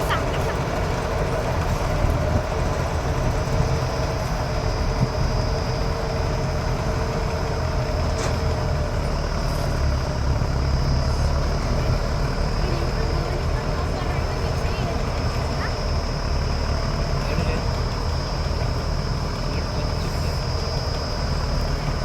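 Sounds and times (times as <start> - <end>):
low engine rumble: 0.0 - 22.0
steady high whine: 0.0 - 22.0.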